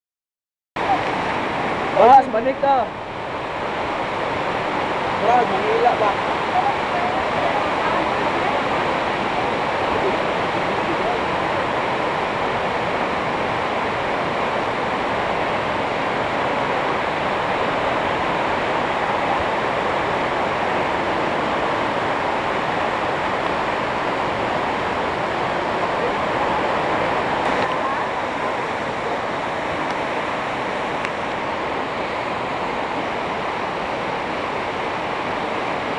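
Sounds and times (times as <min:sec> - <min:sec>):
floodwater rushing: 0:00.8 - 0:35.9.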